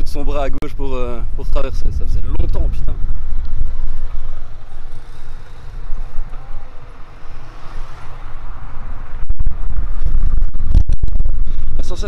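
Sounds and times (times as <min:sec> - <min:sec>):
street traffic: 0:00.0 - 0:12.0
wind rumble on microphone: 0:00.0 - 0:12.0.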